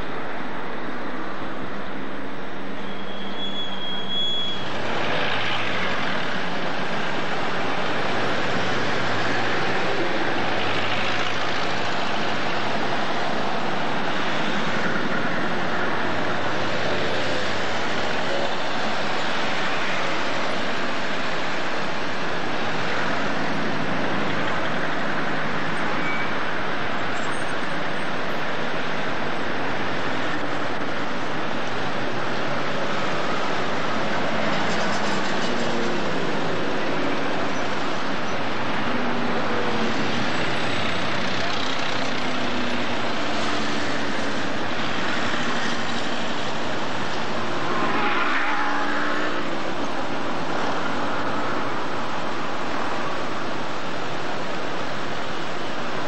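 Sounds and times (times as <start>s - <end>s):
street traffic: 0.0s - 56.0s
cars passing: 4.6s - 56.0s.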